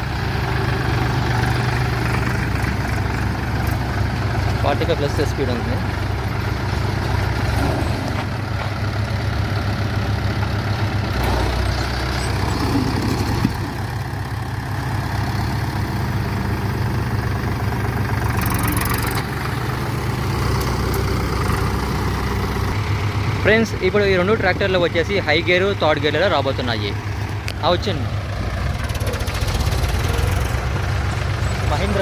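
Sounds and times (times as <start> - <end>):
tractor diesel engines running: 0.0 - 32.0.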